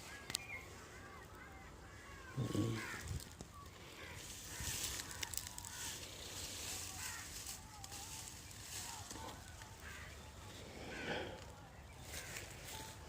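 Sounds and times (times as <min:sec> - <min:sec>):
faint bird calls: 0:00.0 - 0:13.0
steady high-pitched hiss: 0:00.0 - 0:13.0.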